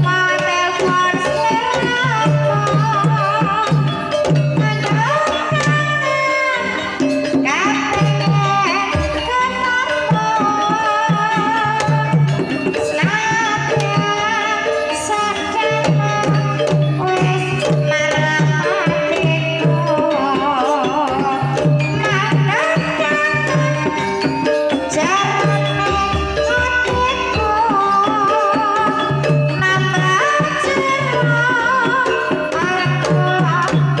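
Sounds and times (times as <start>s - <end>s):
hand drum pattern: 0.0s - 34.0s
pitched gamelan instruments: 0.0s - 34.0s
woman singing ornamented melody: 0.0s - 34.0s.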